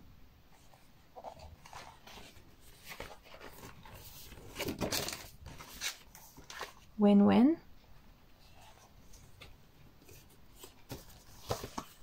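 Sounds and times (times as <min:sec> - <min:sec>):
calendar pages rustling: 0:00.6 - 0:07.0, 0:08.4 - 0:12.0.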